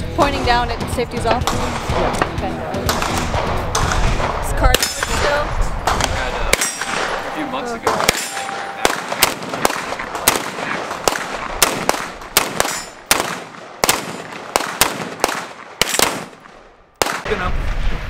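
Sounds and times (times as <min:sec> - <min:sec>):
rifle shots with echo: 0:01.4 - 0:18.0.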